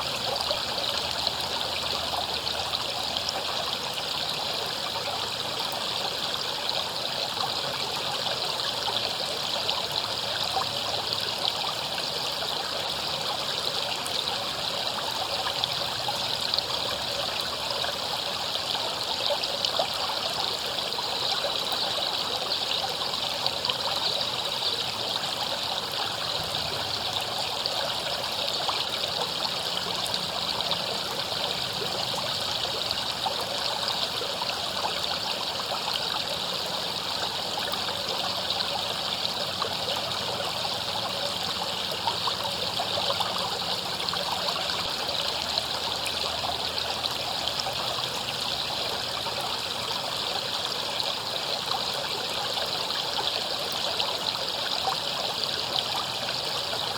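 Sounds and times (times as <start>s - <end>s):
river water flowing over rocks: 0.0s - 56.9s.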